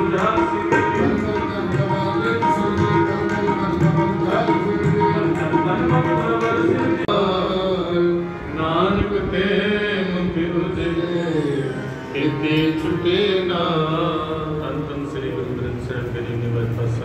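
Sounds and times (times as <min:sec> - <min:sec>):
sustained instrumental accompaniment: 0:00.0 - 0:17.0.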